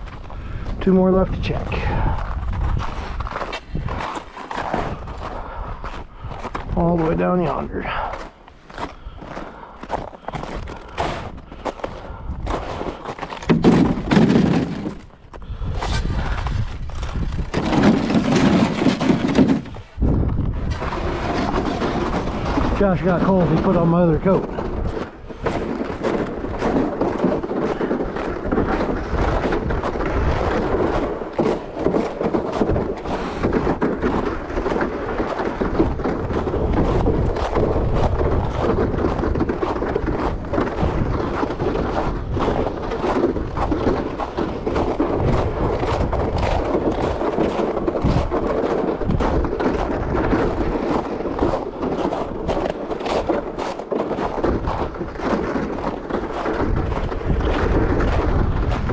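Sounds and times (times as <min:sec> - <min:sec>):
footsteps crunching through snow: 0:00.0 - 0:58.9
wind rumbling on microphone: 0:00.0 - 0:58.9.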